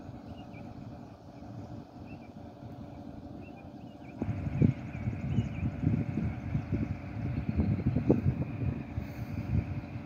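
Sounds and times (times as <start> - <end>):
diesel locomotive running: 0.0 - 10.0
wind buffeting microphone: 0.0 - 10.0.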